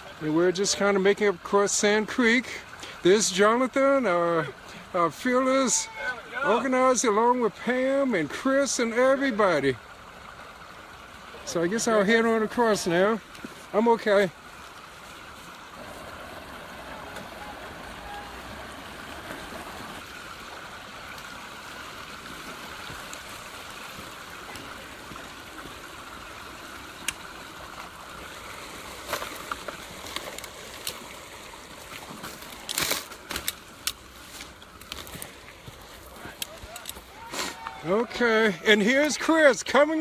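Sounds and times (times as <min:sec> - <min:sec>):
shallow water rushing: 0:00.0 - 0:40.0.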